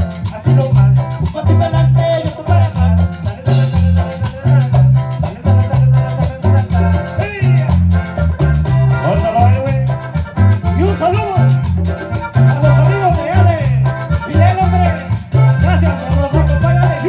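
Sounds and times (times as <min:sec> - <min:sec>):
live cumbia band over pa: 0:00.0 - 0:17.0.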